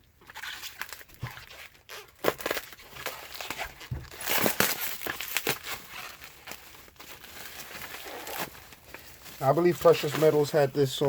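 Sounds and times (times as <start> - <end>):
packaging crinkling and rustling: 0.2 - 11.0.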